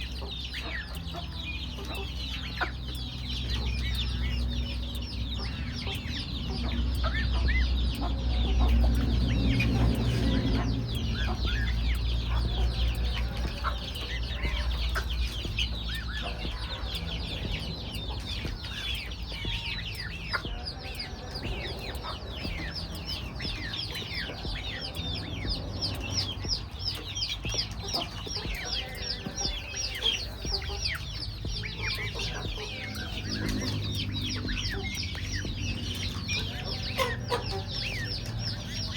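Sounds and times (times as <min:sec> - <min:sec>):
chickens clucking: 0:00.0 - 0:38.9
low rumble: 0:00.0 - 0:38.9.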